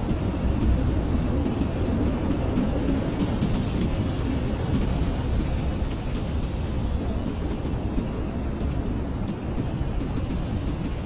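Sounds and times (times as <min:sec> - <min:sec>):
blizzard wind blowing: 0:00.0 - 0:11.0.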